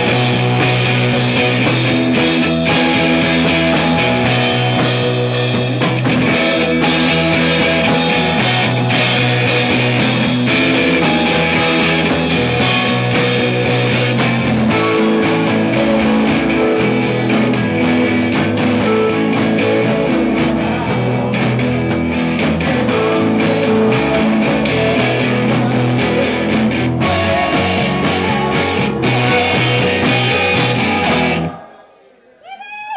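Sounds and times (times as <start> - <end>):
rock band playing: 0.0 - 31.6
guitar: 0.0 - 31.7.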